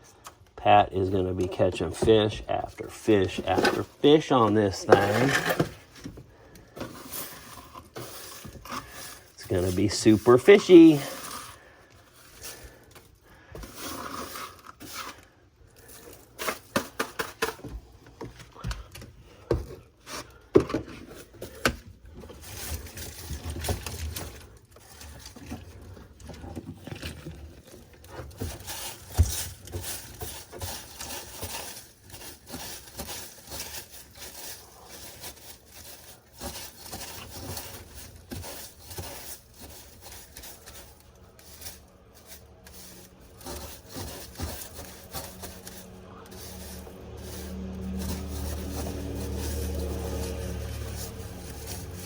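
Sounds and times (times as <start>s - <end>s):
debris scraping and knocking: 0.6s - 52.0s.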